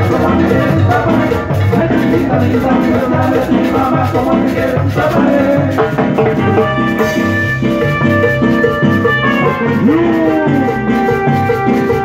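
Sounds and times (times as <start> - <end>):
drums with steady beat: 0.0 - 12.0
electric bass: 0.0 - 12.0
electronic keyboard melody: 0.0 - 12.0.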